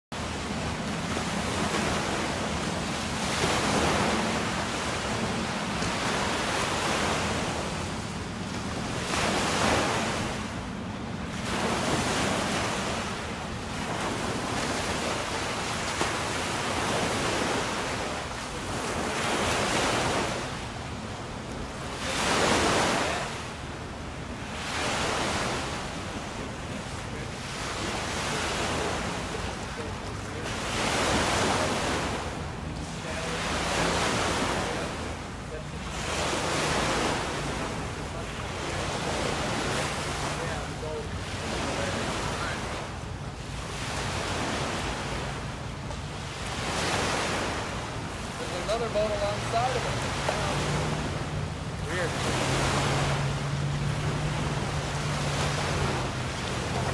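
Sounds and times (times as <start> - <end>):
lake waves washing in: 0.1 - 56.9
wind: 0.1 - 56.9.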